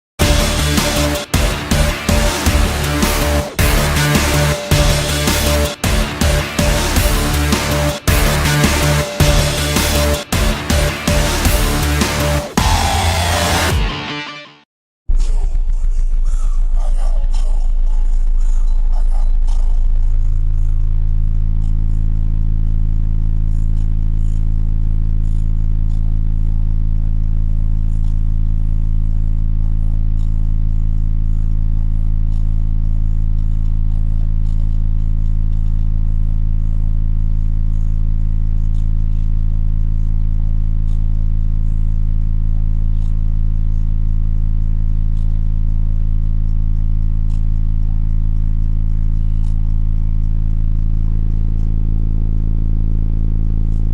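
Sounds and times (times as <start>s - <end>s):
low bass tone from subwoofers: 0.2s - 14.1s, 15.1s - 53.9s.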